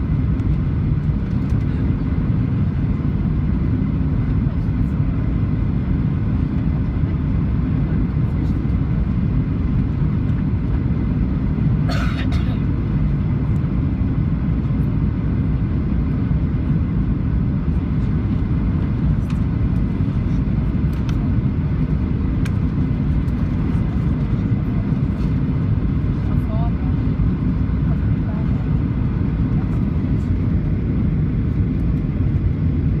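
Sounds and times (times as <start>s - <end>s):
airplane cabin engine roar: 0.0s - 33.0s.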